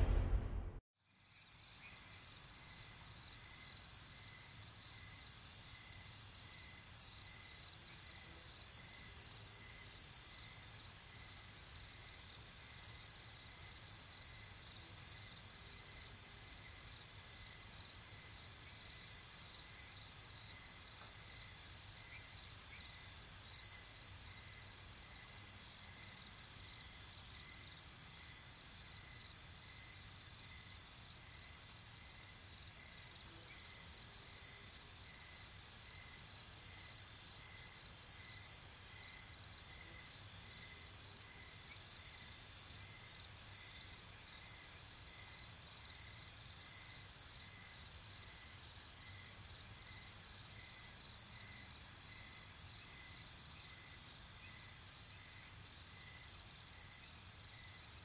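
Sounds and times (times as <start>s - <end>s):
low cricket chirp: 0.0s - 58.0s.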